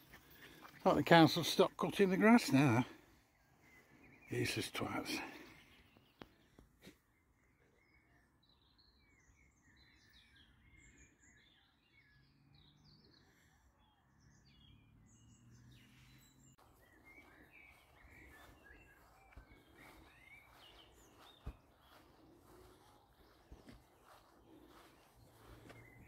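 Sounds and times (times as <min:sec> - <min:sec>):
small birds chirping and singing: 0:00.0 - 0:26.0.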